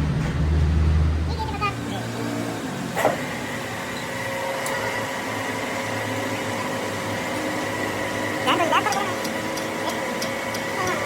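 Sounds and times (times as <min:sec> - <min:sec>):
machine hum with steady tones: 0:00.0 - 0:11.0.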